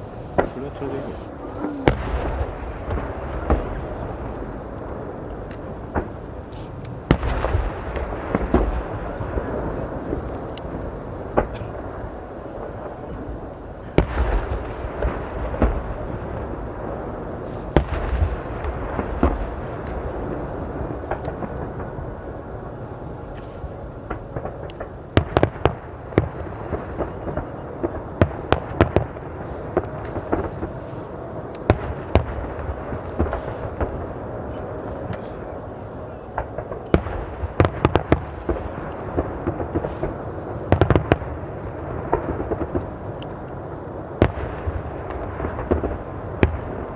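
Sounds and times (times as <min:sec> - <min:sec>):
fireworks bangs and crackles: 0:00.0 - 0:46.9
fireworks explosions rumbling: 0:00.0 - 0:46.9.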